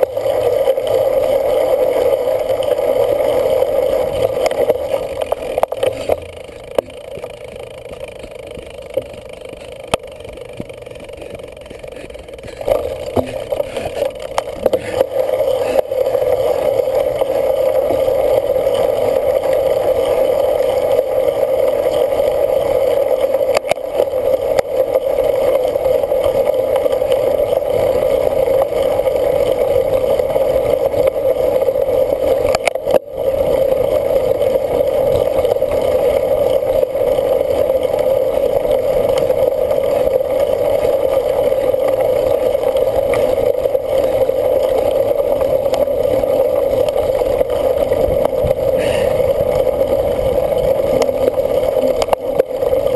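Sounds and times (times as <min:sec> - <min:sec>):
bike tyre noise: 0:00.0 - 0:52.9.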